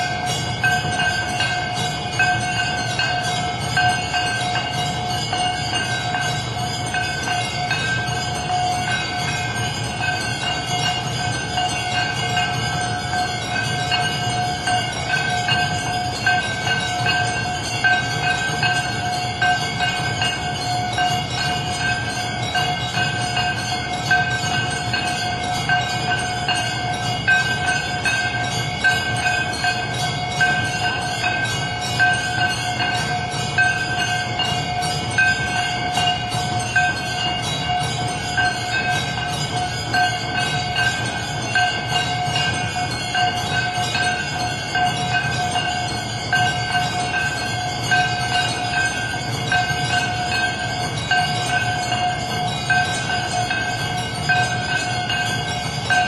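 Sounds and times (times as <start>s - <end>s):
bells ringing: 0.0s - 56.0s.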